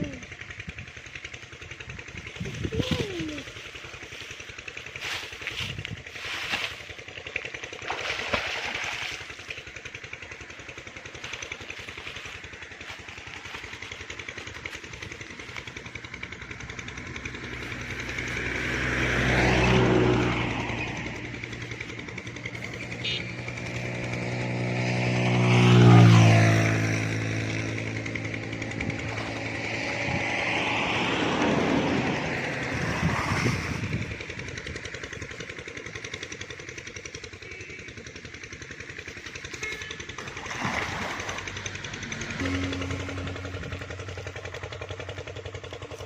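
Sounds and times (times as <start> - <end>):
small engine passing by: 0.0 - 46.0.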